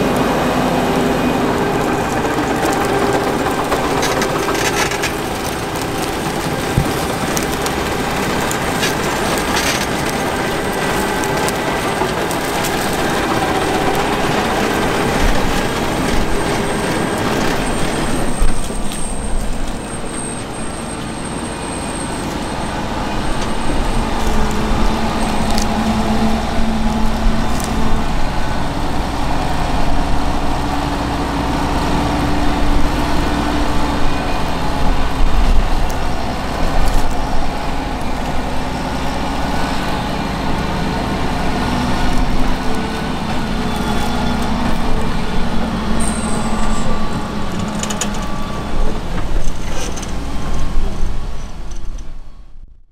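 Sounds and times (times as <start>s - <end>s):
harvester machinery clattering: 0.0s - 52.2s
tractor diesel engine under load: 0.0s - 52.6s.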